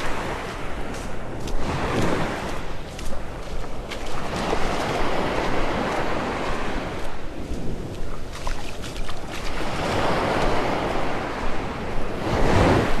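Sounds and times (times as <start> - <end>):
surf washing on sandy beach: 0.0 - 13.0
wind rumbling on microphone: 0.0 - 13.0.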